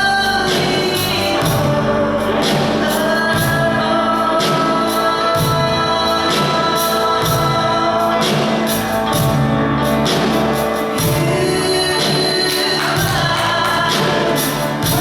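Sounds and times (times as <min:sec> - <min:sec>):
gospel singing over live band: 0:00.0 - 0:15.0.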